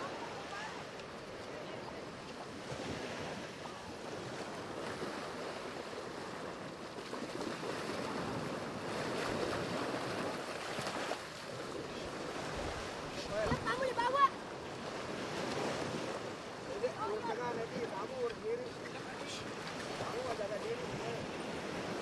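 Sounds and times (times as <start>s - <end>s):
sea surf on a beach: 0.0s - 22.0s.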